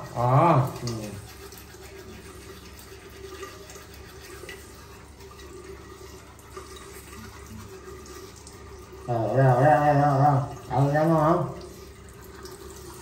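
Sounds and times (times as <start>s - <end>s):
tap running into basin: 0.0s - 13.0s.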